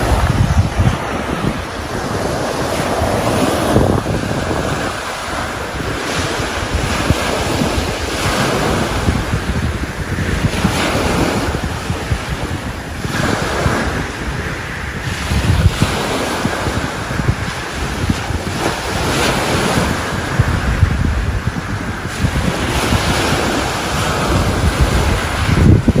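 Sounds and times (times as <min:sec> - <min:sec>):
sea waves washing onto beach: 0:00.0 - 0:26.0
wind buffeting microphone: 0:00.0 - 0:26.0.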